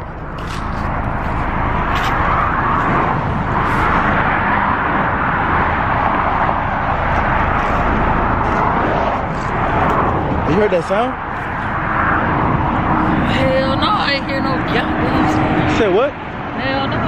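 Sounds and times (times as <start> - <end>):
car road and tyre rush: 0.0 - 17.0.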